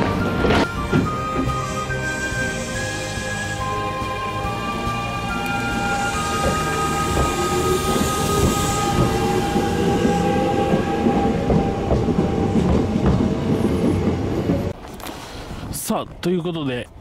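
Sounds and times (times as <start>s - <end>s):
train wheels rumbling: 0.0s - 14.8s
train whining tones: 0.0s - 14.8s.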